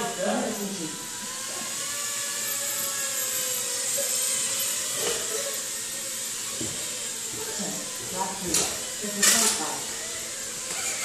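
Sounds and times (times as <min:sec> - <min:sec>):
drone motors buzzing whine: 0:00.0 - 0:11.0.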